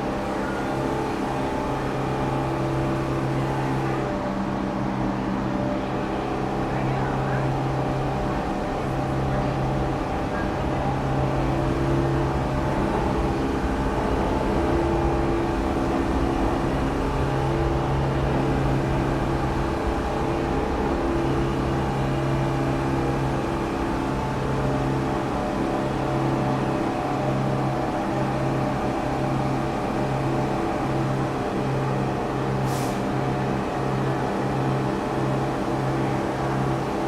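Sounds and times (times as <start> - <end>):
subway station rumbling hum: 0.0 - 37.0.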